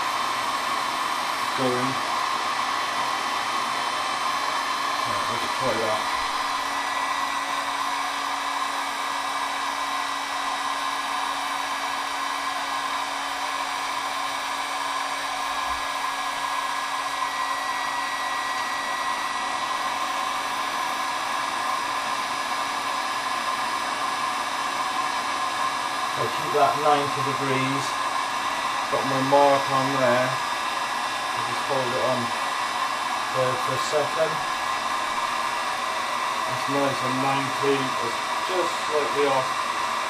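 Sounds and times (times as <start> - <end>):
heat gun whirring: 0.0 - 40.0.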